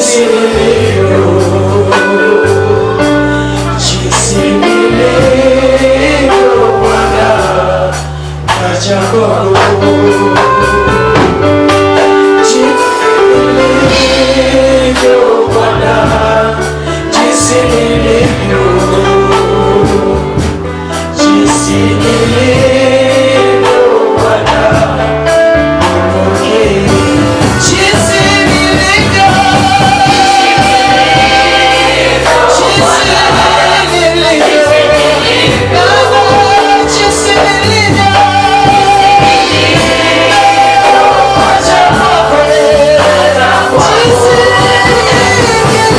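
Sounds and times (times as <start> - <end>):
group singing gospel music: 0.0 - 45.9.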